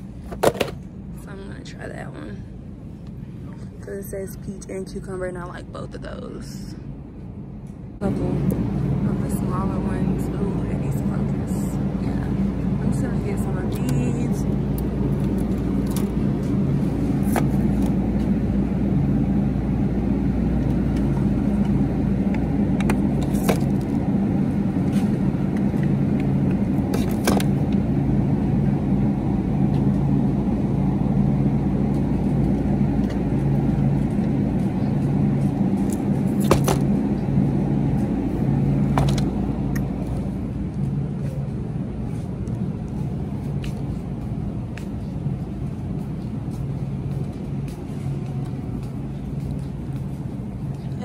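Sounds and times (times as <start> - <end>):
refrigerator hum and rumble: 0.0 - 51.0.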